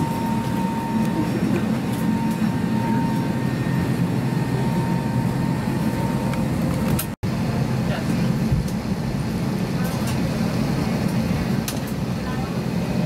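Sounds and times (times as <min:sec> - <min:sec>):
air-conditioning hum in cabin: 0:00.0 - 0:13.0.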